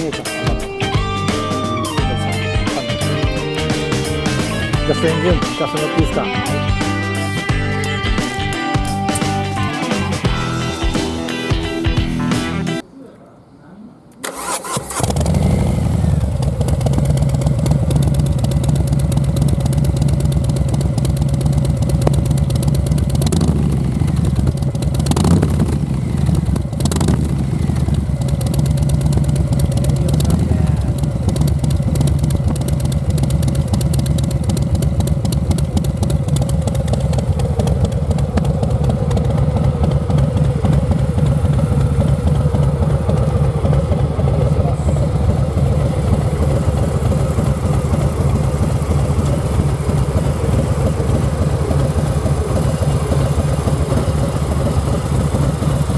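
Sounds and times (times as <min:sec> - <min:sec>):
motorcycle engine idling: 0:00.0 - 0:12.8, 0:14.2 - 0:55.9.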